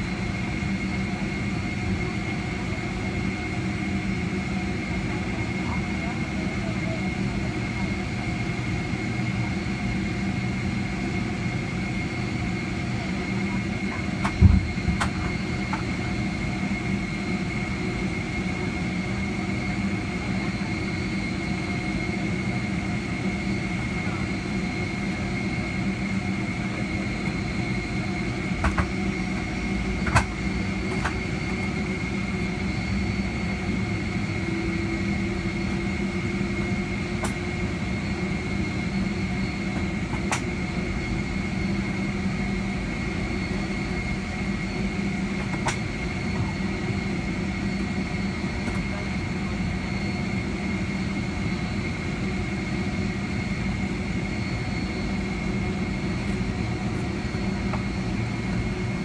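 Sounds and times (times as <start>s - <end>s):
aircraft cabin hum: 0.0s - 59.0s.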